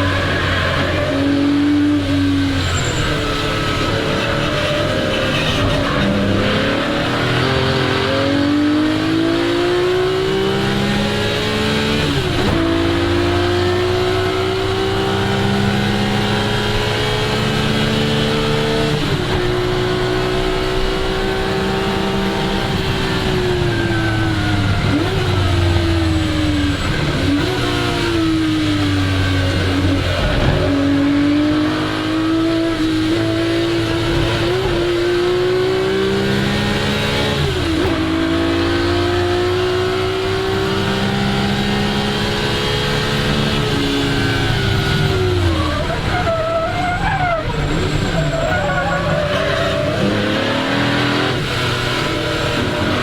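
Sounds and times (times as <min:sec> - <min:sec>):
car engine revving at full throttle: 0:00.0 - 0:53.0.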